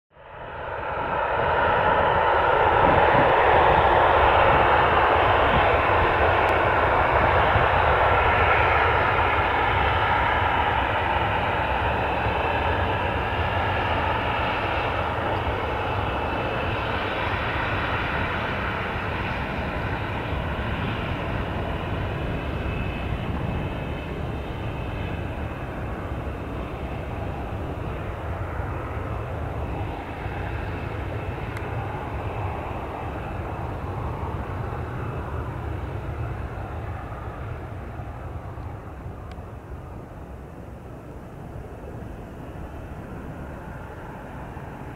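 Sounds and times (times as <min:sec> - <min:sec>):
jet engines at takeoff power: 0:00.1 - 0:44.9.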